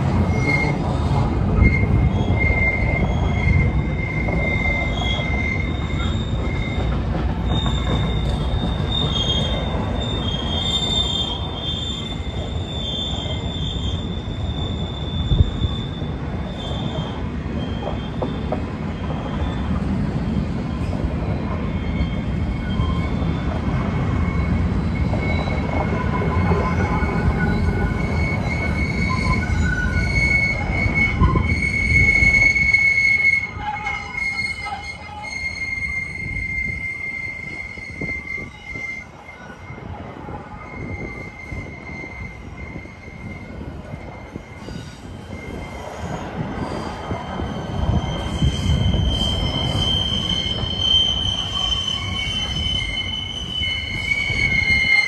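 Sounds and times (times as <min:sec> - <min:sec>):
rumble of freight cars: 0:00.0 - 0:55.0
train wheels squealing: 0:00.0 - 0:55.0.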